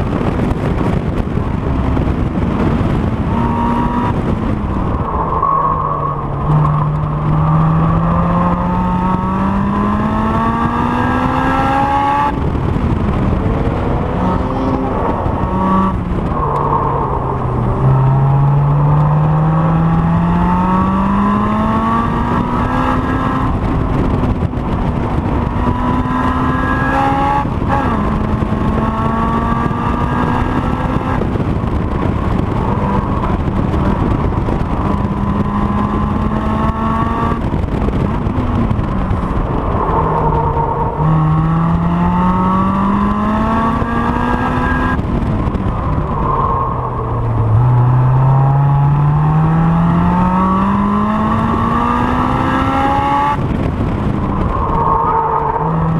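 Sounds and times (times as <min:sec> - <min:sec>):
car engine revving and shifting: 0:00.0 - 0:55.9.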